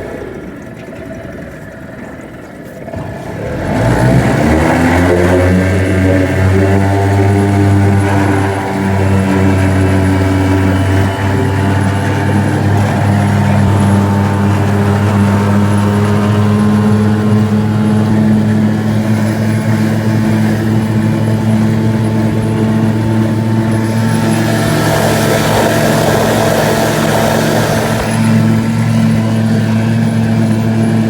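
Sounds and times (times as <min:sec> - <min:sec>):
outboard motor running hard: 0:00.0 - 0:31.0.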